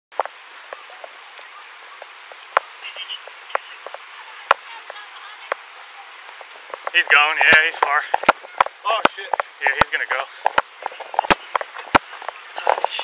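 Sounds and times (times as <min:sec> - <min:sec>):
steady background hiss: 0:00.2 - 0:13.0.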